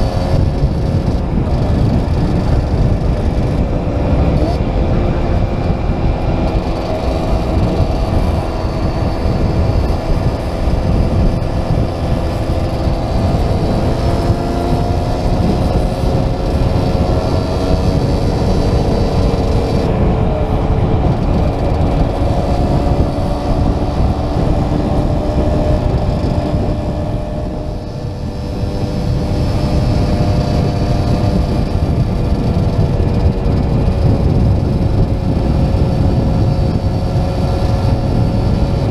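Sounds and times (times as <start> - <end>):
motorcycle engines running: 0.0 - 38.9
wind rushing on microphone: 0.0 - 38.9.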